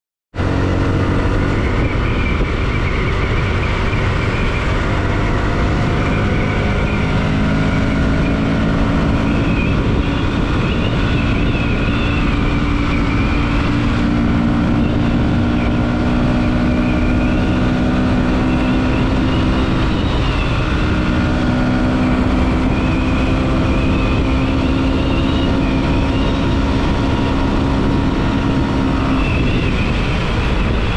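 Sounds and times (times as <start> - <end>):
motorcycle engine at road speed: 0.3 - 30.9.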